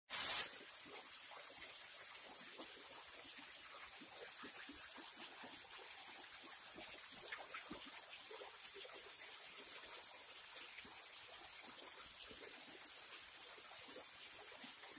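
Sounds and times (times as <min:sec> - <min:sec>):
waterfall splashing into pool: 0:00.1 - 0:14.9.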